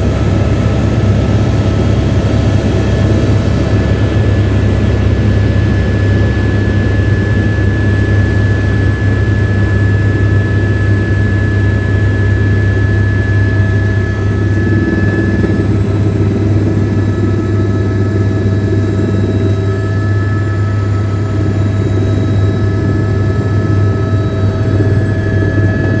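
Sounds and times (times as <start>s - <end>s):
helicopter drone: 0.0s - 26.0s
turbine whine: 0.0s - 26.0s.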